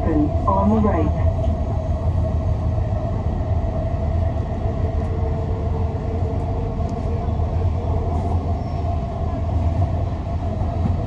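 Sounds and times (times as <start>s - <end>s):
lower train whine: 0.0s - 11.0s
train rumble: 0.0s - 11.0s
train whine: 0.0s - 11.0s.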